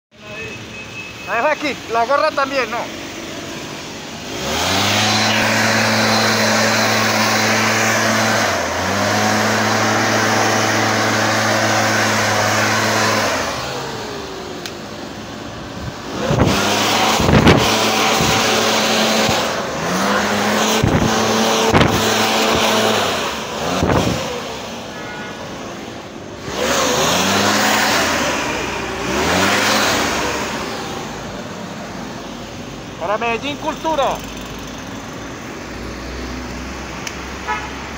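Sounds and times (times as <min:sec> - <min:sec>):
sprayer engine revving: 0:00.6 - 0:37.9.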